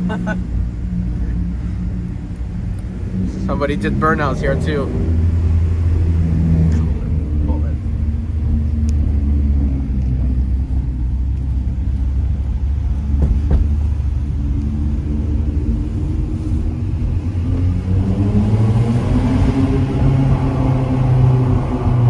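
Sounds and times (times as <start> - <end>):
car engine with deep exhaust: 0.0 - 22.0.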